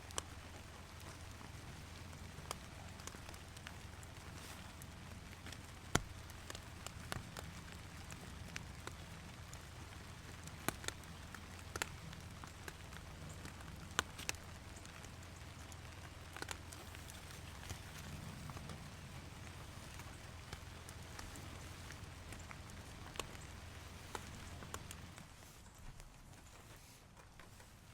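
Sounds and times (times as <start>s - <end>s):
heavy drops ticking: 0.0s - 25.3s
steady rain: 0.0s - 27.9s.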